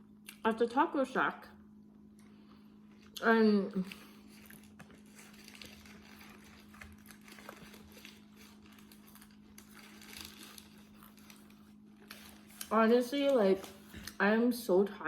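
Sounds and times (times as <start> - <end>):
low electrical hum: 0.0 - 15.0
chewing and food rustling: 2.2 - 14.2.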